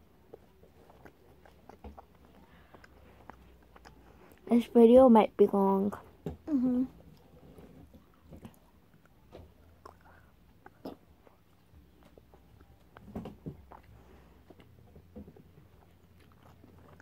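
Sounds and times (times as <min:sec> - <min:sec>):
candy being chewed: 0:00.0 - 0:04.7, 0:06.9 - 0:17.0.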